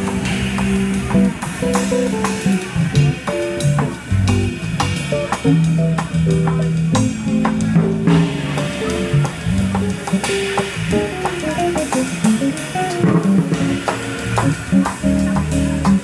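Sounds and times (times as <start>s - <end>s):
drum kit on snare and cymbals: 0.0s - 16.0s
electric guitar melody: 0.0s - 16.0s.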